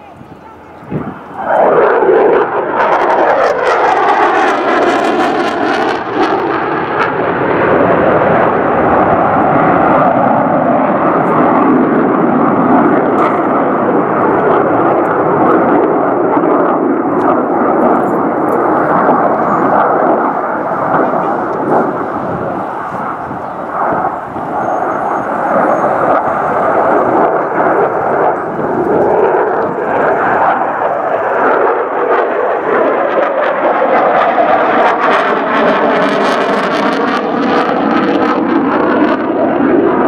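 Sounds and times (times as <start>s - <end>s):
jet fighter roaring past: 0.0s - 40.0s.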